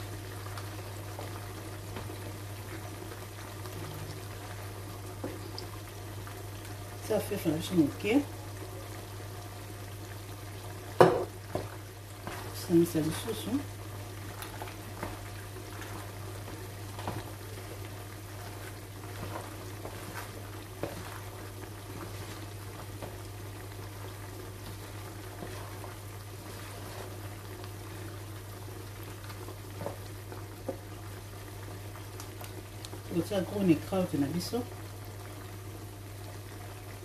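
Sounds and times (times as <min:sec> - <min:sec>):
meat sizzling in a frying pan: 0:00.0 - 0:37.0.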